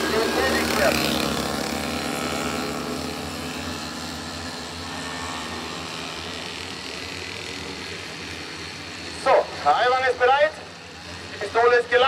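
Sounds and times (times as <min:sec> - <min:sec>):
small motorbike engines passing: 0:00.0 - 0:12.0.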